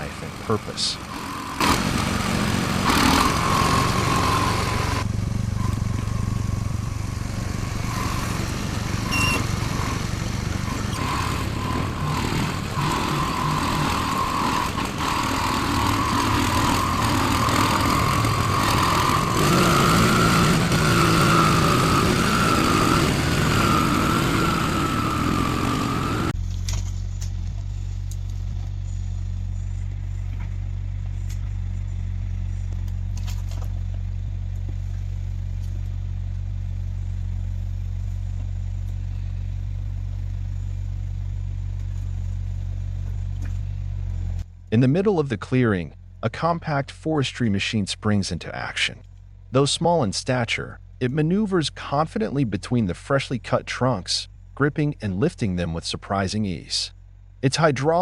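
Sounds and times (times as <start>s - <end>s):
heavy vehicle engine droning: 0.0s - 47.5s
wavering engine whine: 0.0s - 47.6s.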